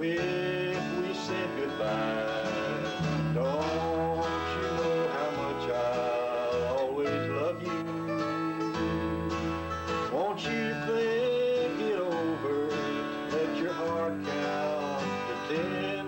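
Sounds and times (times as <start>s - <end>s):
slide dobro: 0.0s - 16.0s
strummed acoustic guitar: 0.0s - 16.0s
electric bass: 1.6s - 16.0s.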